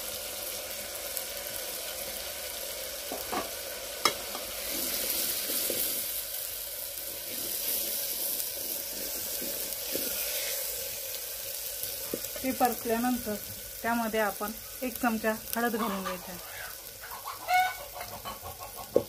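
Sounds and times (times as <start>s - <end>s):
onion sizzling in hot oil: 0.0s - 19.0s.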